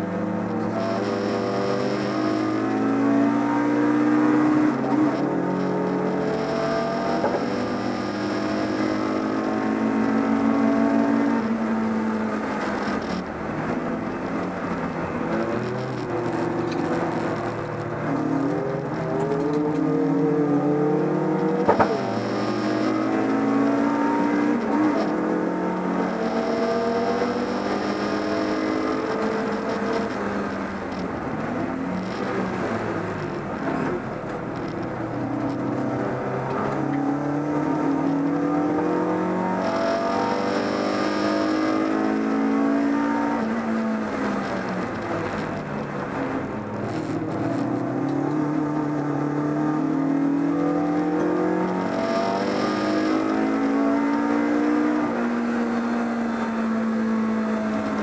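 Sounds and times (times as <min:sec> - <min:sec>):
race car engine revving: 0:00.0 - 0:58.0
road noise: 0:00.0 - 0:58.0.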